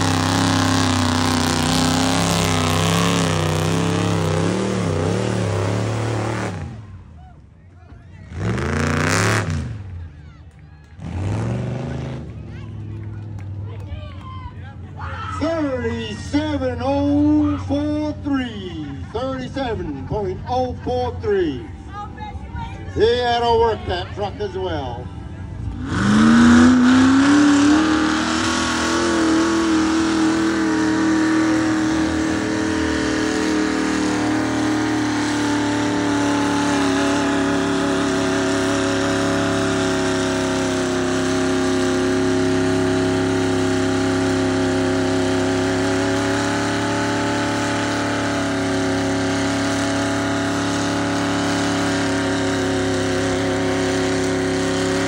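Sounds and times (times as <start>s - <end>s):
truck engine revving: 0.0s - 7.2s, 8.1s - 14.0s, 23.0s - 55.0s.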